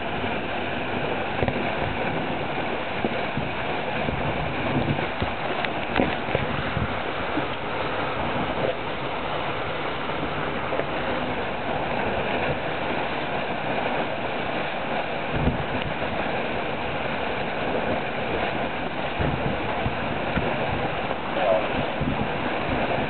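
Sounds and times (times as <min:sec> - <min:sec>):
water rushing past hulls: 0:00.0 - 0:23.0
wind: 0:00.0 - 0:23.0
wind buffeting microphone: 0:00.0 - 0:23.0.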